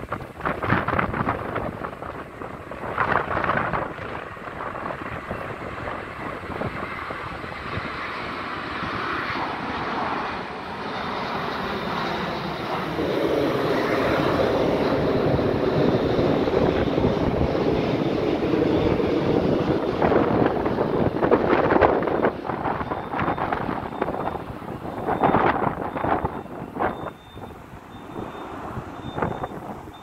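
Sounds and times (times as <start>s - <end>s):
jet engine roar: 0.0s - 30.0s.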